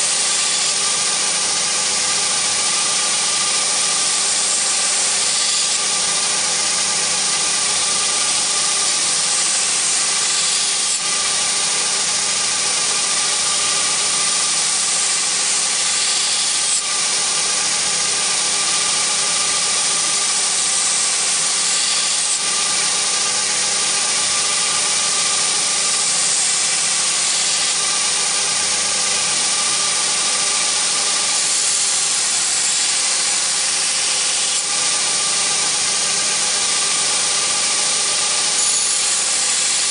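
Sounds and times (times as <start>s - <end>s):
belt grinder grinding steel: 0.0s - 39.9s
grinder motor hum: 0.0s - 39.9s.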